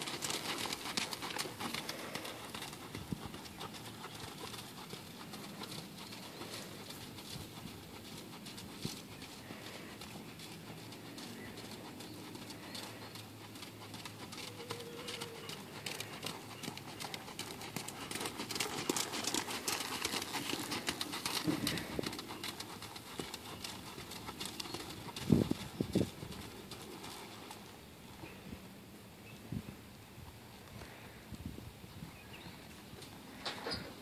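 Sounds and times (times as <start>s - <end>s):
horse hoofbeats in sand: 0.0s - 27.7s.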